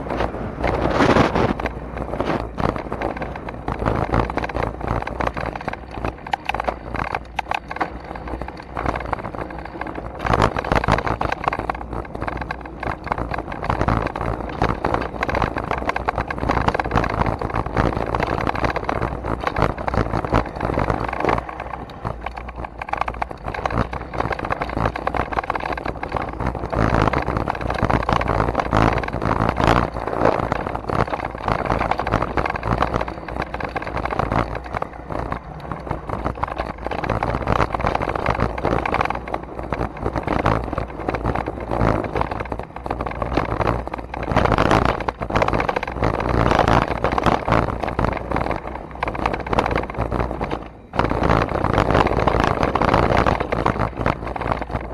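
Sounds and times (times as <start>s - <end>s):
bike rattling on bumpy trail: 0.0s - 54.9s
wind buffeting microphone: 0.0s - 54.9s.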